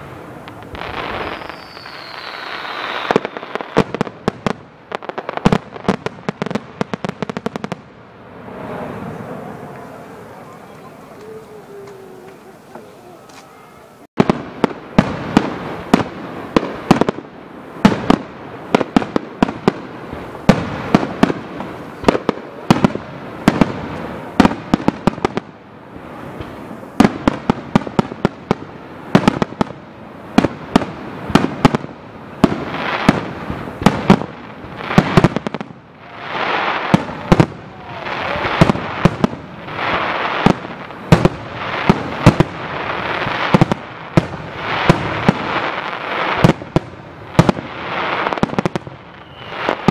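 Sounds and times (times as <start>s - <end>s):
fireworks bursting with bangs: 0.0s - 49.9s
fireworks crackling hiss: 0.0s - 49.9s.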